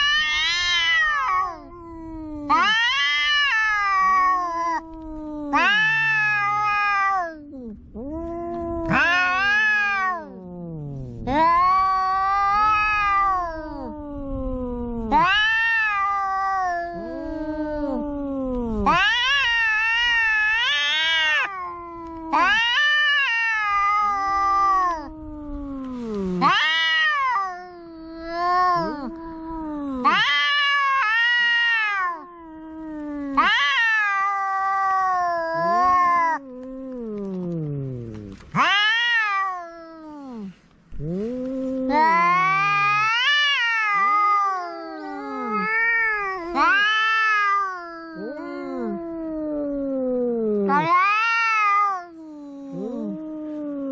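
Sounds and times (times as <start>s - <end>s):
cat loud high yowl: 0.0s - 53.9s
cat low sliding wail: 0.0s - 53.9s.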